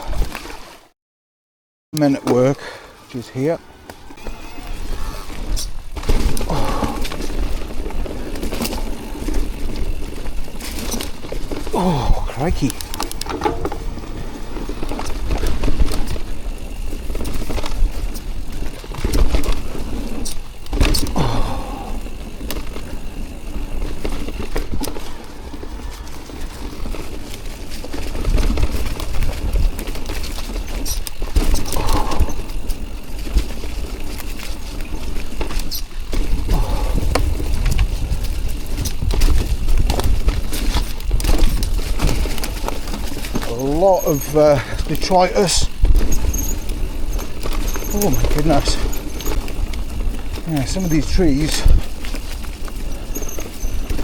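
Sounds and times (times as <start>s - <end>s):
bike frame and chain rattling: 3.2s - 54.0s
wind buffeting camera: 3.9s - 54.0s.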